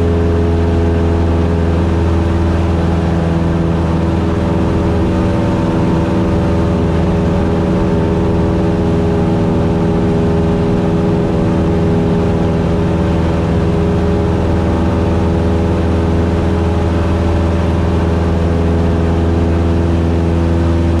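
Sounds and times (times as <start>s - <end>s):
airplane engine drone: 0.0s - 21.0s.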